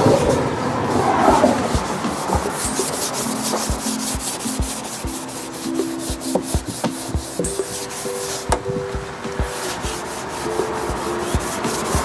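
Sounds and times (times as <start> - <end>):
scrub pad rubbing wet wood: 0.9 - 12.0.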